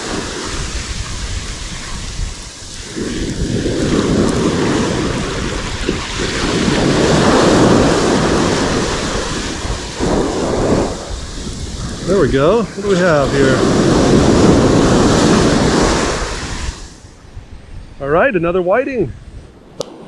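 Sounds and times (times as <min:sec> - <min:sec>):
surf breaking on beach: 0:00.0 - 0:17.4
wind buffeting microphone: 0:00.0 - 0:20.0.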